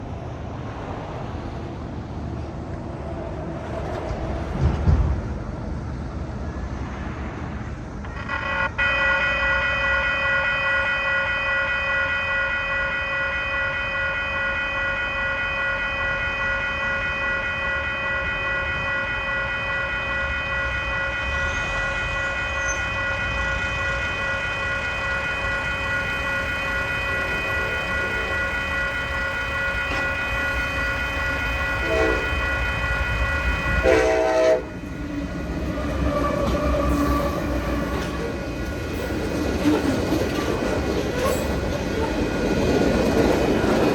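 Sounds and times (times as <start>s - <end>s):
crossing warning bell ringing: 8.2s - 43.9s.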